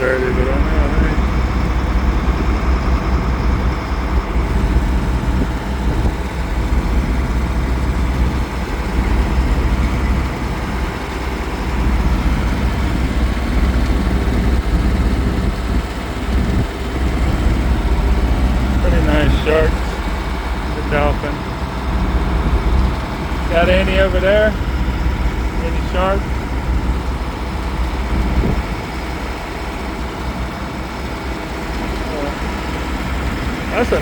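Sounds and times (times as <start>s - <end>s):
boat engine drone: 0.0s - 34.0s.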